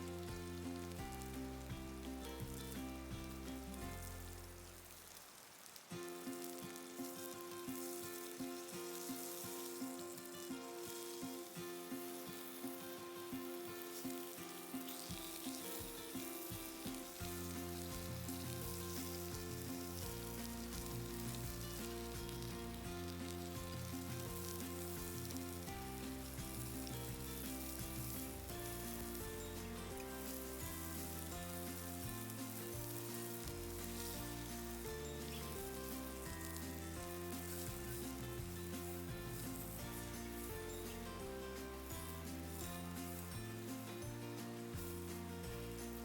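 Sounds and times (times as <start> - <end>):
background music: 0.0 - 5.1, 6.0 - 46.0
food sizzling in a pan: 0.0 - 46.0.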